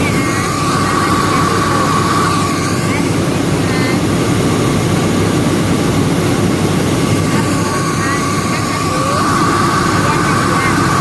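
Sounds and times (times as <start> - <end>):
milling machinery drone: 0.0 - 11.0.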